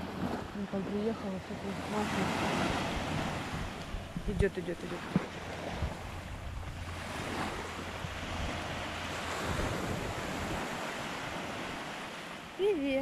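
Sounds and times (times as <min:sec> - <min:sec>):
small waves washing on beach: 0:00.0 - 0:13.0
wind rumbling on microphone: 0:00.0 - 0:13.0.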